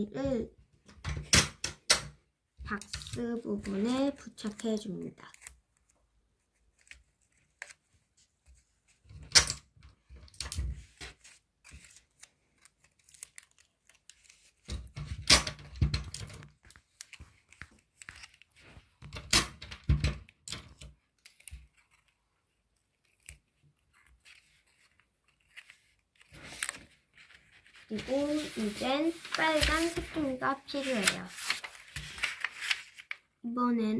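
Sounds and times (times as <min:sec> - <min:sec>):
paper rustling: 0:02.7 - 0:09.4, 0:10.0 - 0:19.2, 0:20.5 - 0:33.3.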